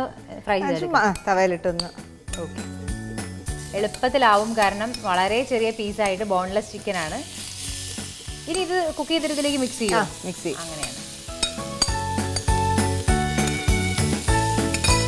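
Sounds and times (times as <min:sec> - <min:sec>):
background music with steady beat: 0:00.0 - 0:15.0
food sizzling in hot oil: 0:00.8 - 0:15.0.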